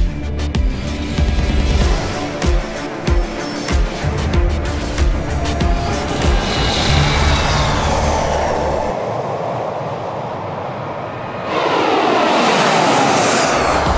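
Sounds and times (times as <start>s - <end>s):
jet engines roaring with whine: 0.2s - 13.9s.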